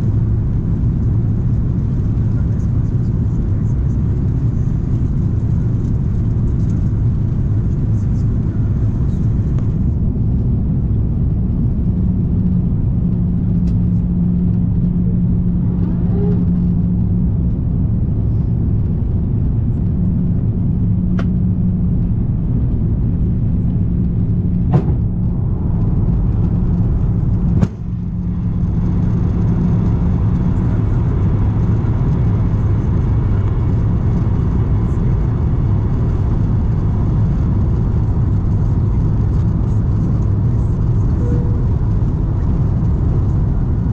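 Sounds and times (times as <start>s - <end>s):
airliner cabin engine rumble: 0.0s - 43.9s
steady hum: 0.0s - 43.9s.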